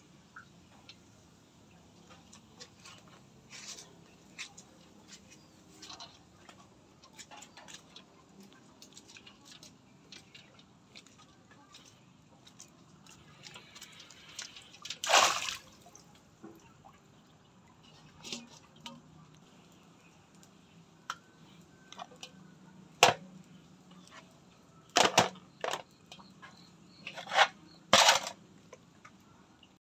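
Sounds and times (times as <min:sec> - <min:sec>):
water sloshing and splashing: 0:00.3 - 0:29.8.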